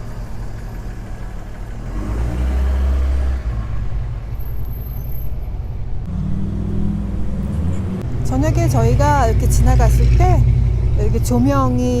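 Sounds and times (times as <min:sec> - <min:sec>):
vehicle engine rumble passing: 0:00.0 - 0:12.0.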